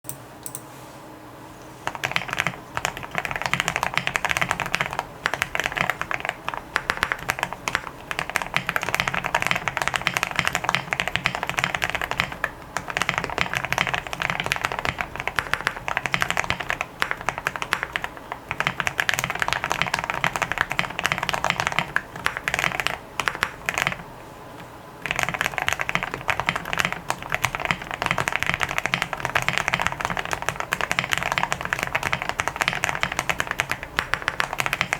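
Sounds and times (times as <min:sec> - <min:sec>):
typing on mechanical keyboard: 0:01.8 - 0:24.0, 0:25.0 - 0:34.9.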